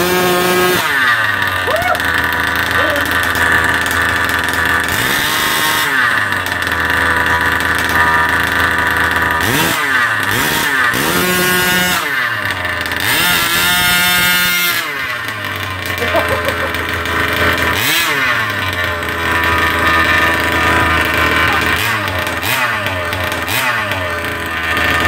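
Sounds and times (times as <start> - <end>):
small petrol engine revving: 0.0 - 25.0.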